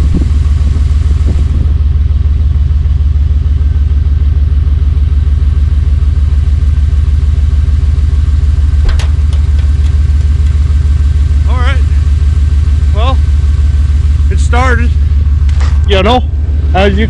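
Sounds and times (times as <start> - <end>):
buggy engine idling: 0.0 - 17.0.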